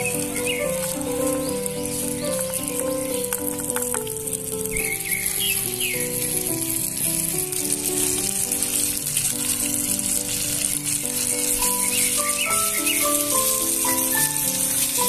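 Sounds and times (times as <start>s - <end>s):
chicken sizzling in a pot: 0.0s - 15.0s
slow background music: 0.0s - 15.0s.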